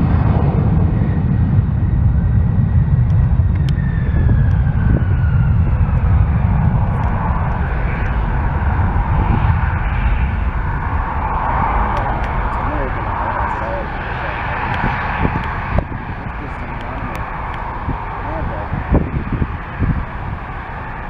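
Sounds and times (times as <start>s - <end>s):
jet airliner rumble: 0.0s - 21.0s
jet engine whine: 0.0s - 21.0s.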